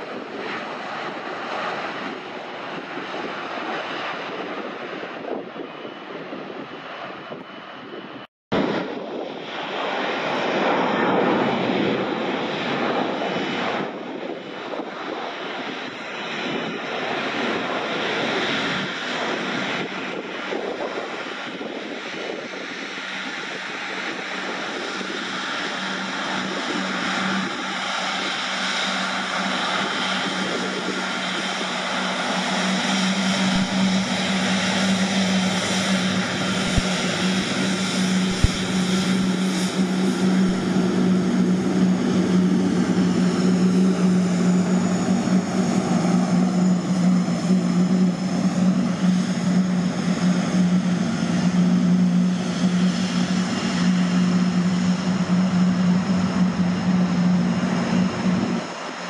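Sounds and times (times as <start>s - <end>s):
airliner engines running: 0.0s - 59.0s.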